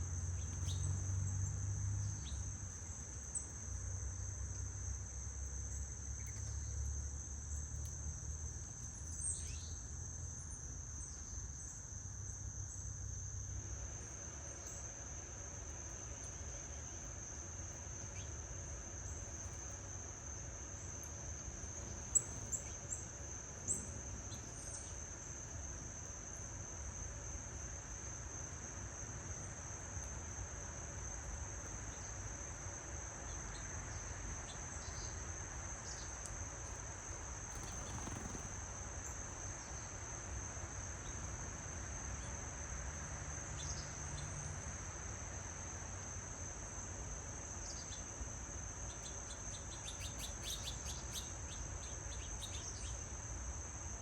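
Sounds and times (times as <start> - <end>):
crickets chorus: 0.0 - 54.0.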